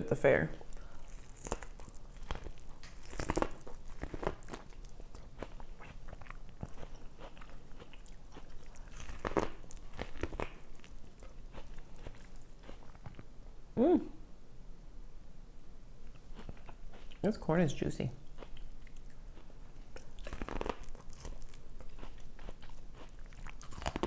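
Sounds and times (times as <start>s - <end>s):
biting and chewing: 0.6s - 13.3s, 16.1s - 17.3s, 18.2s - 24.0s.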